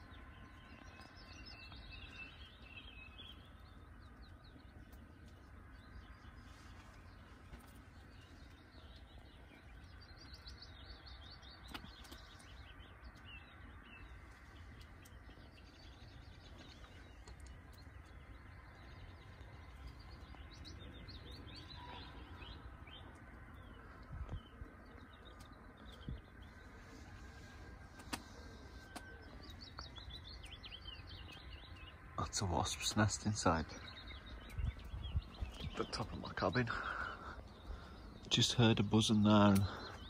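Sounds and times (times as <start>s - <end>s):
faint birdsong: 0.0s - 40.0s.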